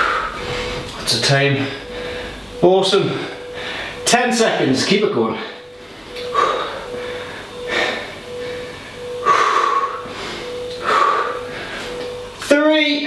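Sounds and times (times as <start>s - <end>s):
man breathing hard: 0.0s - 1.0s, 1.6s - 4.1s, 5.3s - 12.4s
faint steady hum: 0.0s - 13.0s.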